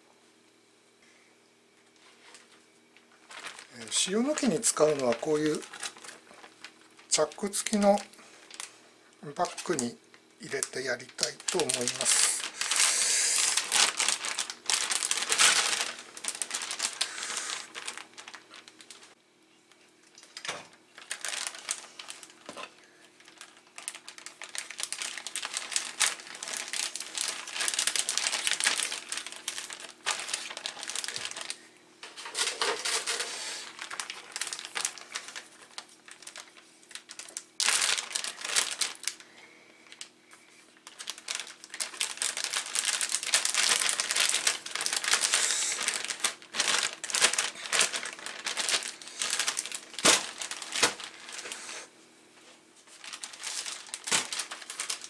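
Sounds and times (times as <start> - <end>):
plastic bags crinkling: 2.0 - 19.2, 20.0 - 51.9, 52.8 - 55.0.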